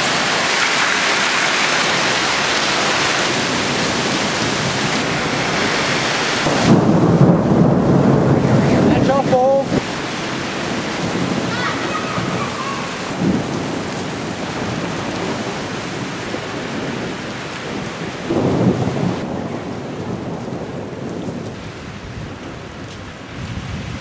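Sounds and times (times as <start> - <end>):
heavy rain falling: 0.0 - 24.0
thunder rumbling: 0.0 - 24.0.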